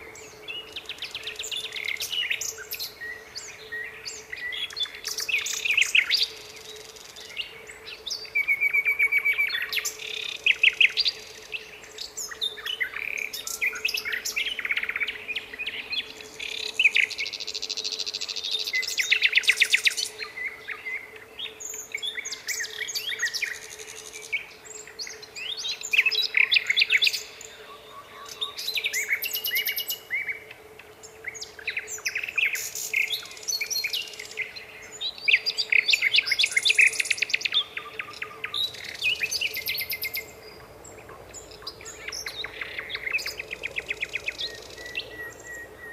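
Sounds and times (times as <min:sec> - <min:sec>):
nightingale singing: 0:00.0 - 0:45.9.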